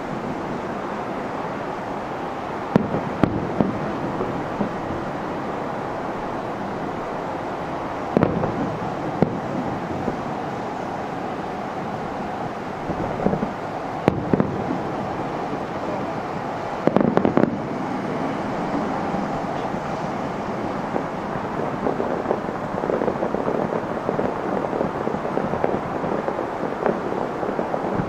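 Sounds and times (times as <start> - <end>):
distant fireworks booming: 0.0 - 28.0
fireworks bursts and crackles: 0.0 - 28.0.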